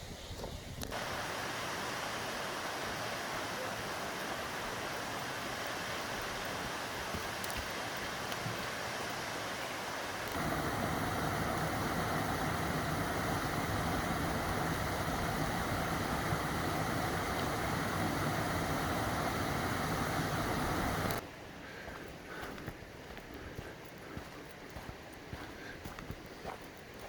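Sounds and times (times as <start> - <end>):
flowing mountain water: 0.9 - 27.0.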